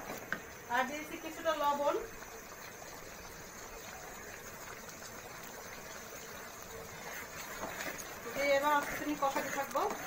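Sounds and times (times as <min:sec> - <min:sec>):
masala bubbling and sizzling in pot: 0:00.0 - 0:10.0.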